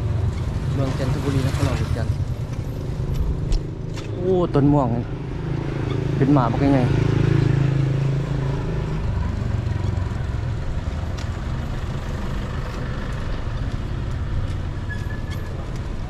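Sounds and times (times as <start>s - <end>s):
scooter passing by: 0.0s - 14.8s
road and wind rumble: 0.0s - 16.0s.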